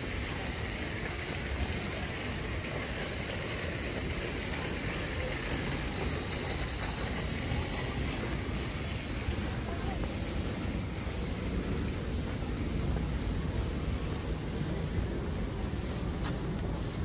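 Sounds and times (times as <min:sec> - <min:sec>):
hiss: 0:00.0 - 0:17.0.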